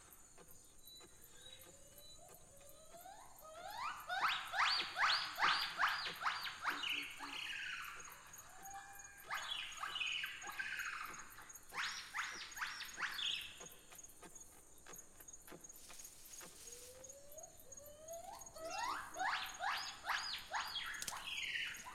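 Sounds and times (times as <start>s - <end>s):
high insect trill: 0.0s - 21.9s
rising whistled bird calls: 0.8s - 13.7s, 16.5s - 21.9s.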